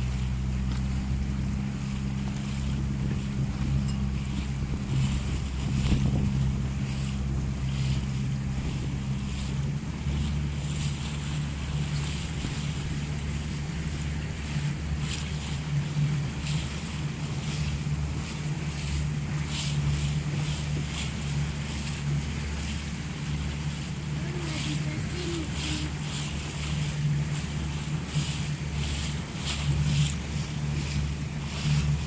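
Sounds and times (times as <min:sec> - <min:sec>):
boat engine running: 0:00.0 - 0:32.0
water noise: 0:00.0 - 0:32.0
wind on microphone: 0:00.0 - 0:32.0.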